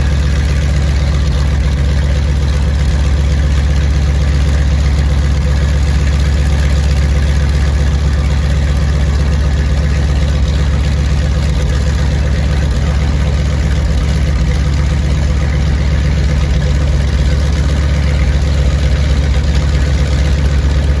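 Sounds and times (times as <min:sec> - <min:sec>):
radial engines idling: 0:00.0 - 0:21.0.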